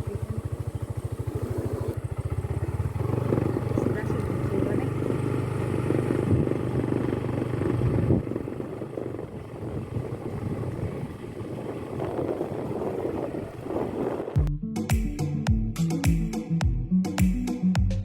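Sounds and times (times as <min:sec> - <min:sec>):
road noise: 0:00.0 - 0:14.5
vehicle engine running: 0:00.0 - 0:14.5.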